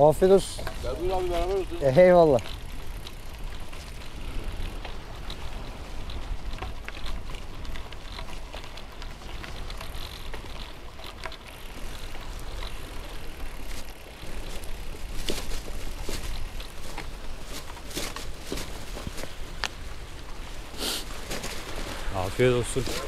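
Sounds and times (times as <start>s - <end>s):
bike tyres crunching on gravel: 0.0s - 23.0s.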